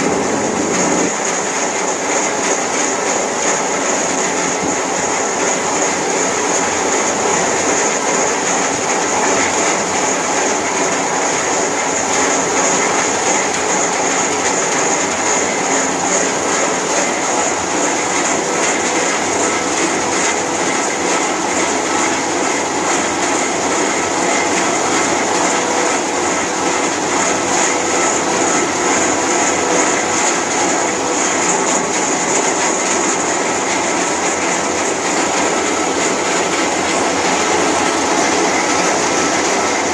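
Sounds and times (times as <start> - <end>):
crusher and fan running: 0.0 - 39.9.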